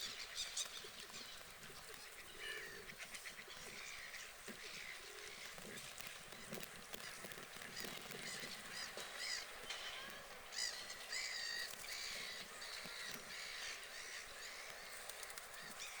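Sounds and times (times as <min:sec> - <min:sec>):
birds calling on a lake: 0:00.0 - 0:16.0.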